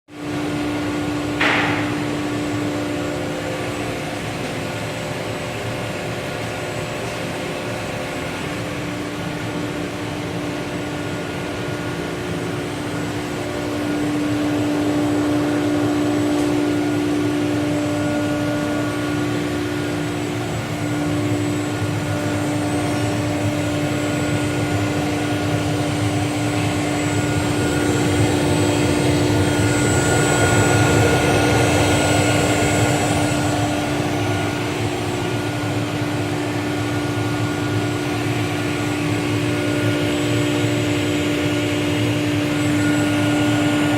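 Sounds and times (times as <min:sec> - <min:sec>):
vacuum pump humming: 0:00.1 - 0:43.9.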